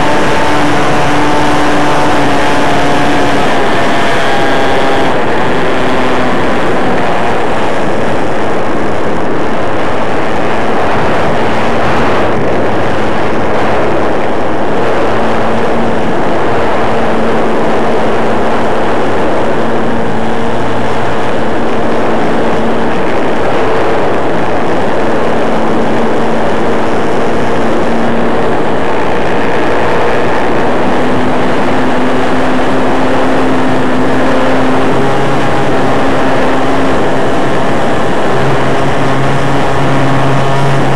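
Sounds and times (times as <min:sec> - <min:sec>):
model plane engine running: 0:00.0 - 0:40.9
wind rush: 0:00.0 - 0:40.9.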